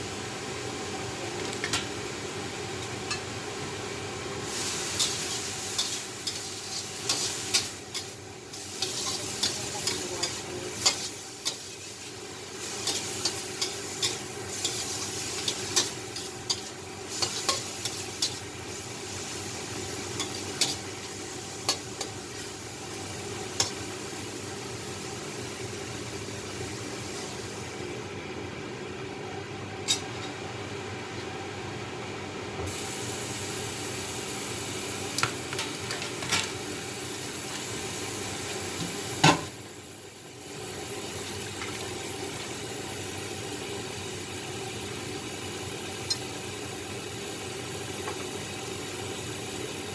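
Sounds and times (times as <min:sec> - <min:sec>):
mushrooms sizzling in a wok: 0:00.0 - 0:28.2, 0:32.7 - 0:49.9.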